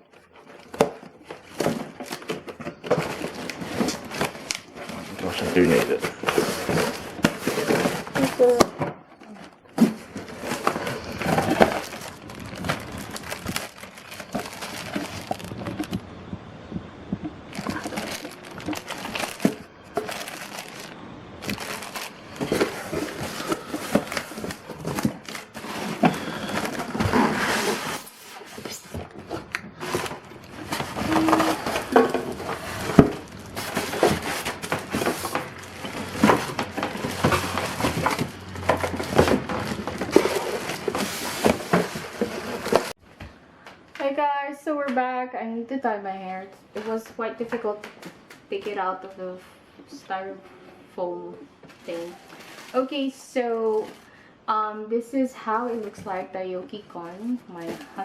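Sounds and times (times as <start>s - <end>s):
packaging rustling and crinkling: 0.0s - 43.2s, 51.6s - 54.2s, 55.7s - 58.0s.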